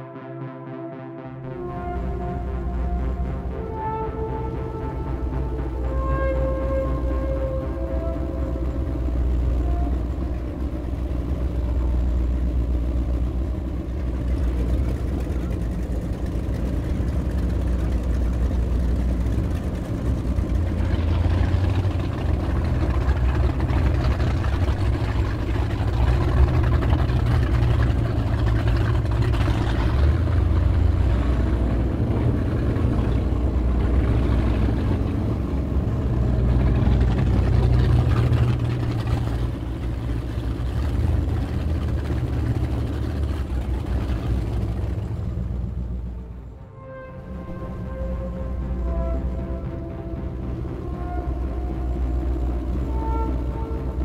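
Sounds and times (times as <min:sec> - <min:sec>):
boat engines rumbling: 0:01.4 - 0:54.0.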